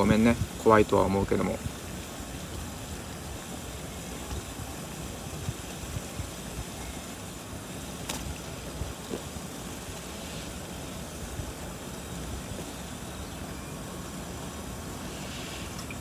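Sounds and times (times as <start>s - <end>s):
water boiling: 0.0s - 16.0s.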